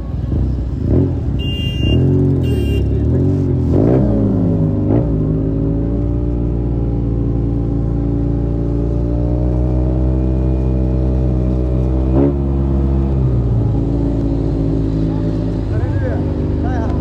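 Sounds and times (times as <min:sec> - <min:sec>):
motorcycle engine revving: 0:00.2 - 0:17.0.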